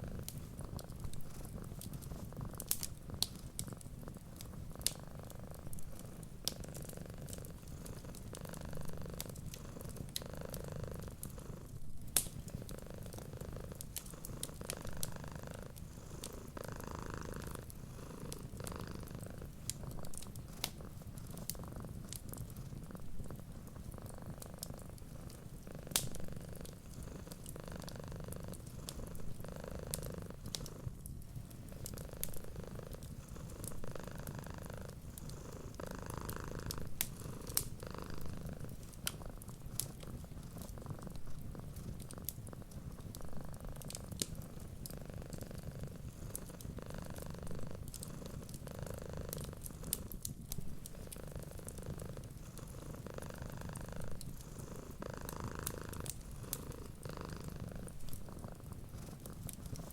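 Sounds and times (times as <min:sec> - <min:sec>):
wood fire pops and crackles: 0:00.0 - 0:10.3, 0:11.0 - 0:16.6, 0:17.2 - 0:48.7, 0:49.3 - 0:59.9
cat purring: 0:00.0 - 0:59.9.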